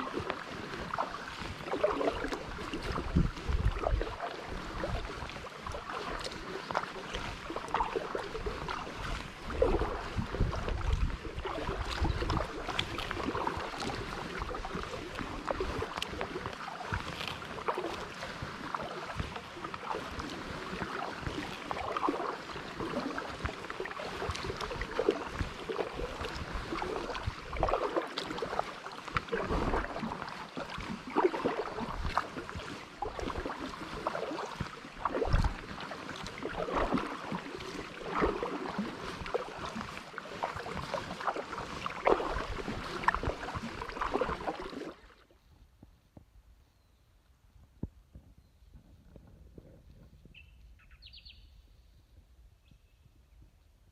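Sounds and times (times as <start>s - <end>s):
paddle splashing in water: 0.0s - 45.6s
wind on microphone: 0.0s - 53.9s.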